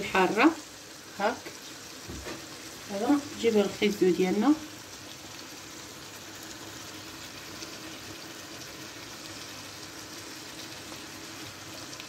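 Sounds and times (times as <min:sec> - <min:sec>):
pot simmering with steady hiss: 0:00.0 - 0:12.0.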